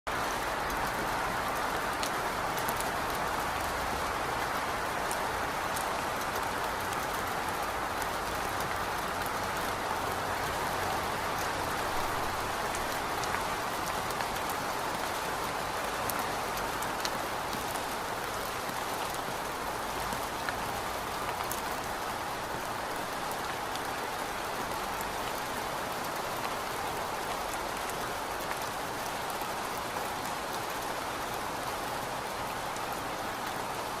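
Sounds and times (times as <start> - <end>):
steady rain: 0.1 - 34.0.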